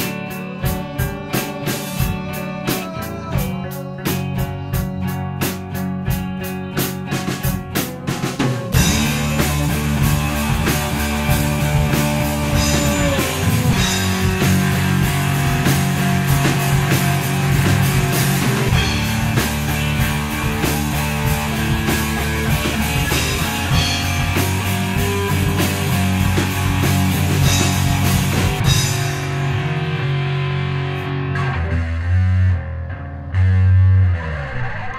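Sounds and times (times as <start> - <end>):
guitar chords: 0.0 - 34.9
rock band playing: 0.0 - 34.9.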